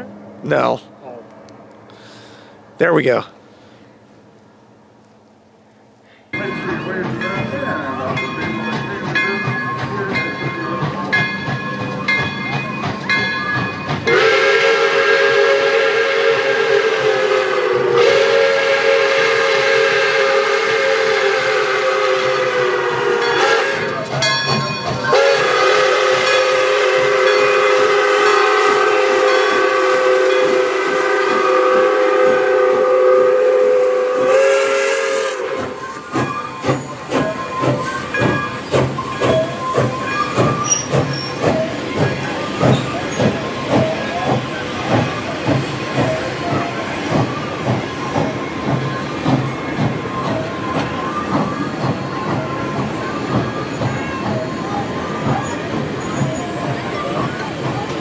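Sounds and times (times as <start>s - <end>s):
hissing steam: 6.0s - 58.0s
locomotive exhaust chuffing: 6.3s - 58.0s
steam locomotive chime whistle: 6.3s - 58.0s.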